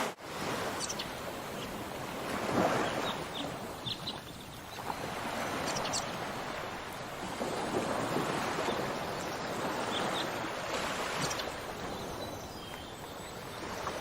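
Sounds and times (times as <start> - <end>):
surf: 0.0 - 14.0
wind: 0.0 - 14.0.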